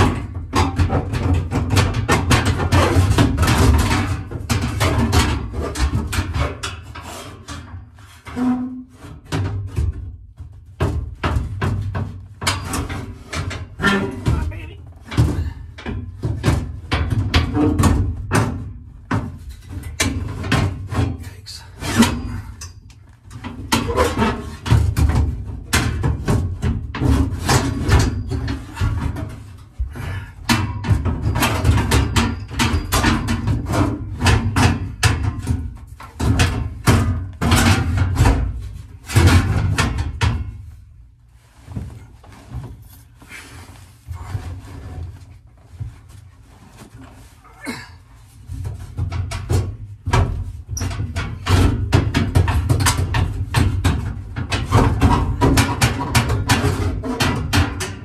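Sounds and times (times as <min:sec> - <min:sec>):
metal tray knocking and scraping: 0:00.0 - 0:21.2, 0:23.3 - 0:29.7, 0:30.4 - 0:40.7, 0:48.6 - 0:58.0.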